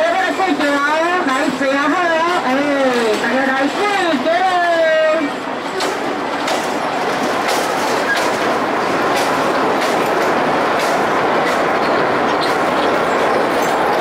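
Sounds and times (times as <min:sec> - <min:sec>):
rail joint clicks: 0:00.0 - 0:04.5, 0:05.1 - 0:14.0
wheels rumbling on rail: 0:00.0 - 0:14.0.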